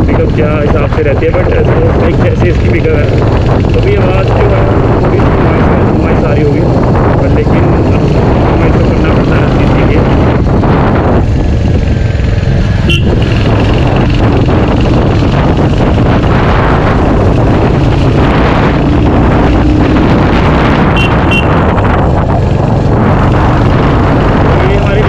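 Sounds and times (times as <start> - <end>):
motorcycle engine running: 0.0 - 25.0
wind rush on microphone: 0.0 - 25.0.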